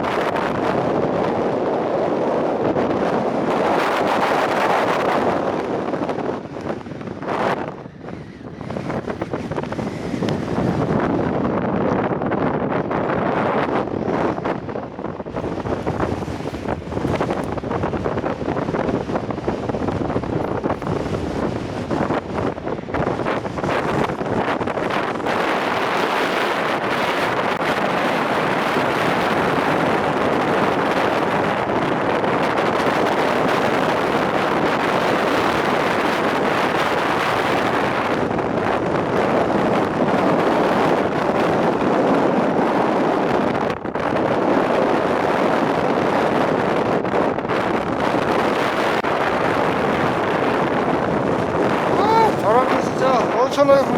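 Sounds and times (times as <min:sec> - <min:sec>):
strong wind on microphone: 0:00.0 - 0:53.9.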